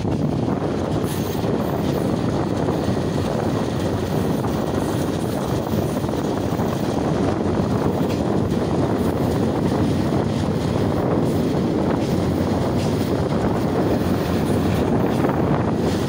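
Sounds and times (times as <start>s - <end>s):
train rumbling: 0.0s - 16.0s
wind on microphone: 0.0s - 16.0s.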